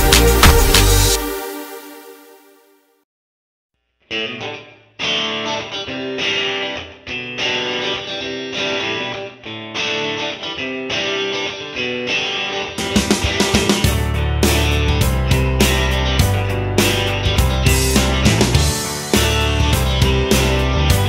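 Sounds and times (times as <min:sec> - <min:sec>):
guitar music: 0:00.0 - 0:02.3, 0:04.0 - 0:21.0.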